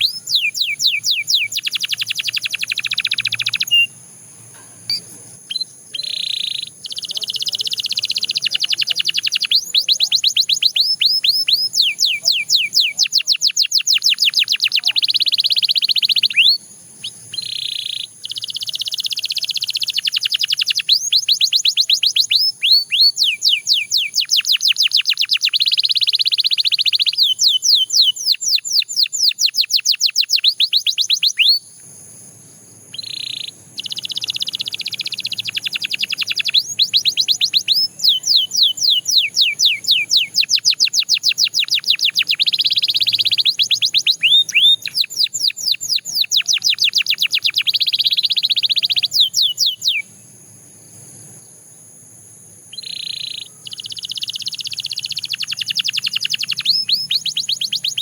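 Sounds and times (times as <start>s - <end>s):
canary singing trills: 0.0s - 51.4s, 52.7s - 58.0s.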